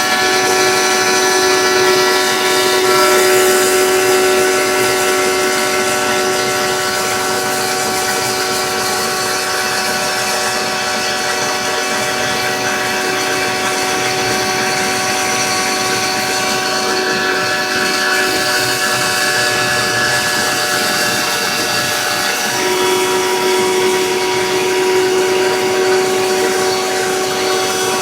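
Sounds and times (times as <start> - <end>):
machine spindle whining: 0.0 - 28.0.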